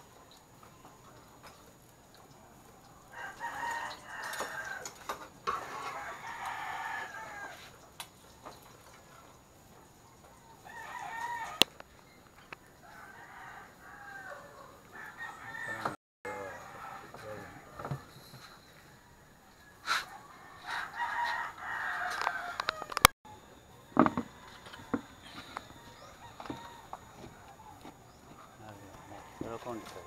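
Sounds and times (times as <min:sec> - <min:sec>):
roosters crowing: 0:02.5 - 0:07.8, 0:10.2 - 0:11.8, 0:12.5 - 0:30.0.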